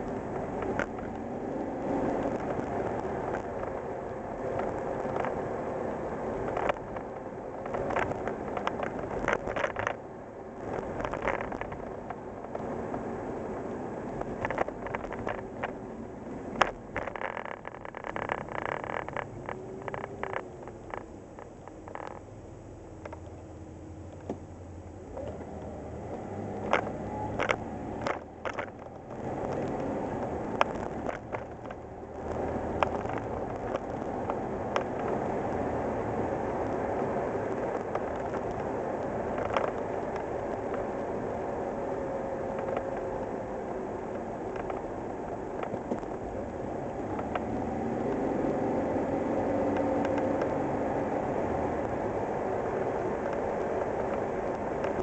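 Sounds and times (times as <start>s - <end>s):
sharp clicks and rattles: 0.0s - 5.5s, 6.2s - 10.0s, 10.6s - 15.8s, 16.4s - 24.5s, 25.1s - 48.6s, 49.4s - 55.0s
truck engine and road noise: 0.0s - 55.0s.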